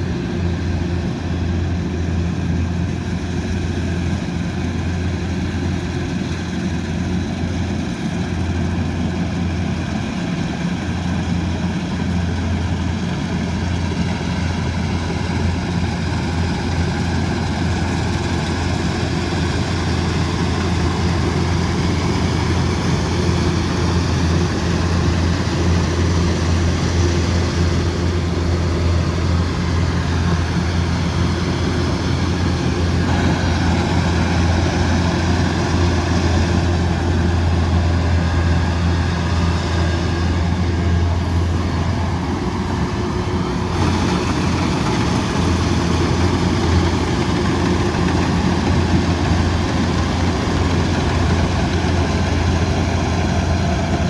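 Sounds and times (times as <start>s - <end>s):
diesel engine drone: 0.0s - 54.0s
machinery noise: 0.0s - 54.0s.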